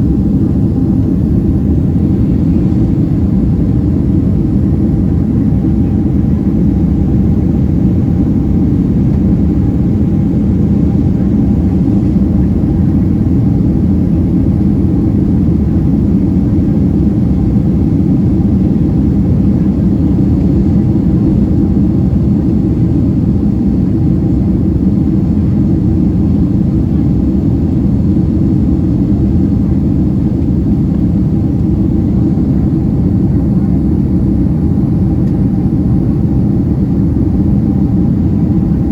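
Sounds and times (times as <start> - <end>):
airplane engine rumble in cabin: 0.0 - 38.9.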